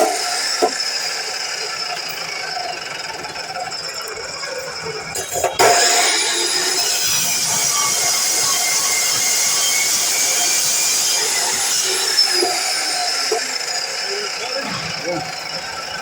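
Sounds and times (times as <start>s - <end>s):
miter saw motor whining: 0.0s - 16.0s.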